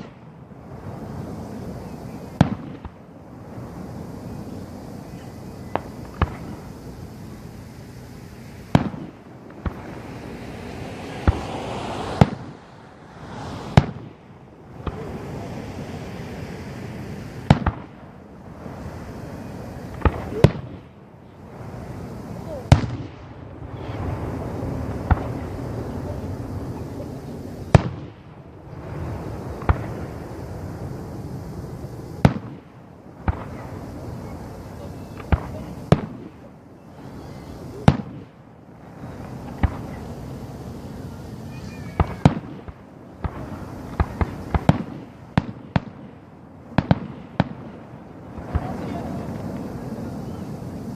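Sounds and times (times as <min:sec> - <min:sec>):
steady hiss: 0:00.0 - 0:50.9
fireworks shells bursting: 0:03.8 - 0:28.2, 0:32.0 - 0:50.9.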